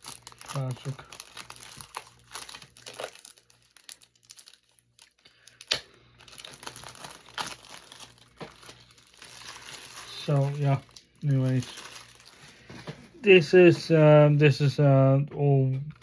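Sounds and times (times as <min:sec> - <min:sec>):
plastic wrapping crinkling and tearing: 0:00.0 - 0:12.8.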